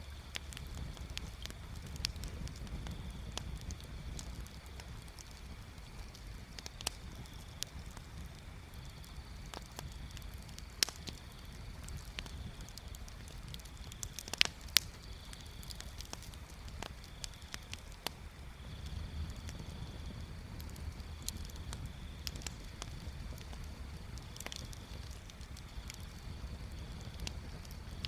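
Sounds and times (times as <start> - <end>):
bonfire crackling and popping: 0.0 - 28.0
low rumble of flames: 0.0 - 28.0.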